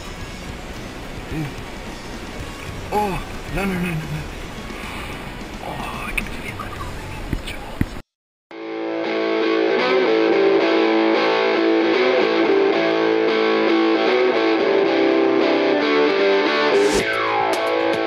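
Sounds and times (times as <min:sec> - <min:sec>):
guitar-led music: 0:00.0 - 0:07.8, 0:08.5 - 0:18.0.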